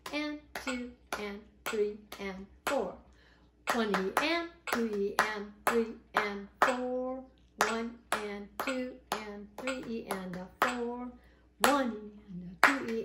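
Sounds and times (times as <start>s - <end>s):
hand clapping: 0.0s - 3.0s, 3.7s - 12.0s, 12.6s - 13.0s.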